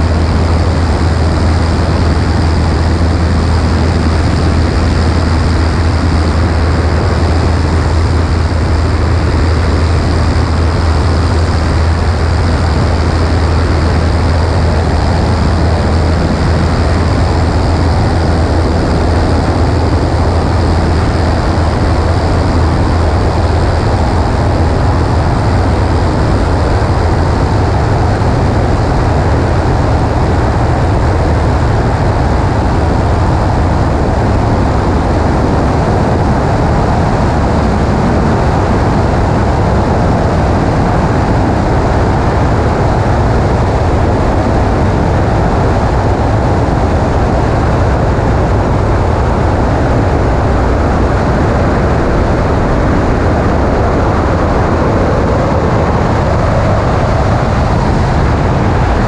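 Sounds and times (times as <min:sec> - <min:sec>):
propeller airplane droning: 0:00.0 - 0:59.0.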